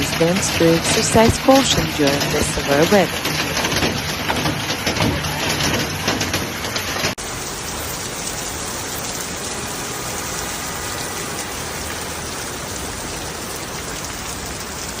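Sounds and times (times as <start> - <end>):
hail clattering: 0.0 - 15.0
steady hiss of precipitation: 0.0 - 15.0.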